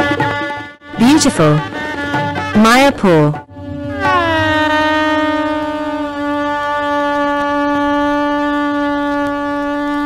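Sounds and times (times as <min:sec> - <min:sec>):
conch shell blown: 0:00.0 - 0:10.0.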